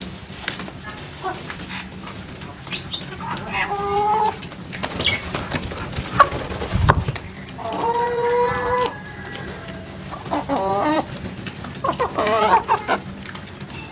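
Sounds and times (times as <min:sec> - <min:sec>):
birds calling: 0:00.0 - 0:13.9.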